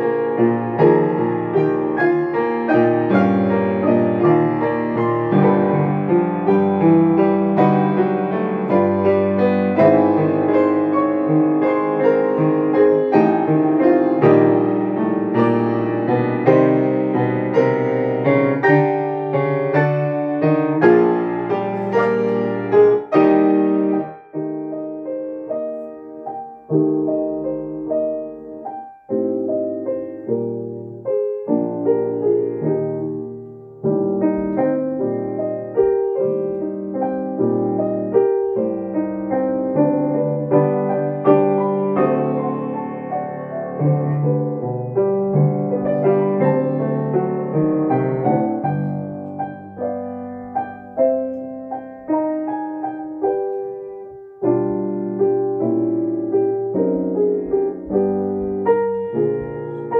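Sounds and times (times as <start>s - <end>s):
classical piano duet: 0.0s - 59.9s.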